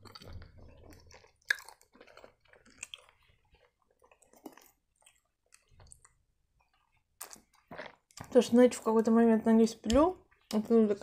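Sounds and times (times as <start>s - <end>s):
mouth chewing food: 0.0s - 9.1s.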